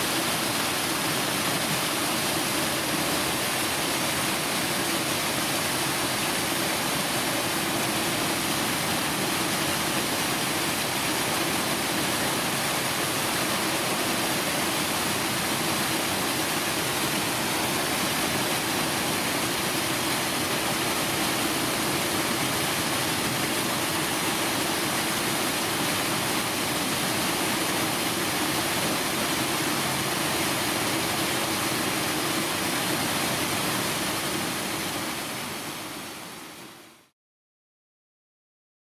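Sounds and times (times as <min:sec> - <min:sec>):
running water rushing: 0:00.0 - 0:37.1.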